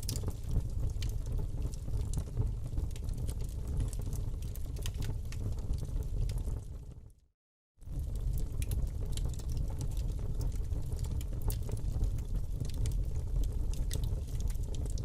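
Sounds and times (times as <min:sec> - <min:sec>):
low rumble of flames: 0:00.0 - 0:07.2, 0:07.8 - 0:15.0
wood fire crackling and popping: 0:00.0 - 0:07.2, 0:07.8 - 0:15.0.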